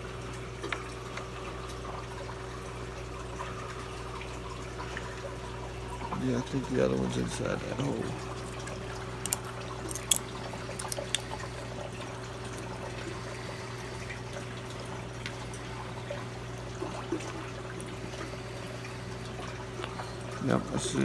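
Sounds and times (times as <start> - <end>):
aquarium pump hum: 0.0 - 21.0
water trickling in aquarium: 0.0 - 21.0.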